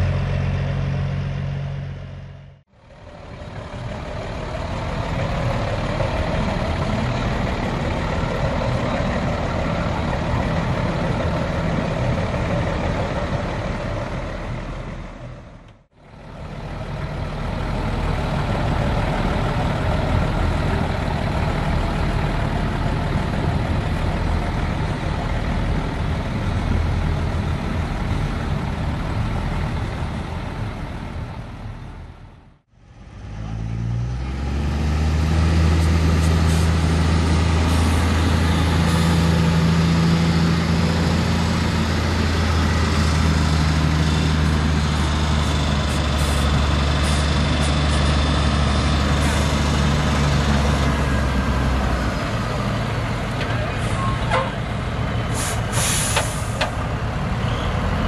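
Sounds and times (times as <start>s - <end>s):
truck engines idling: 0.0s - 58.0s.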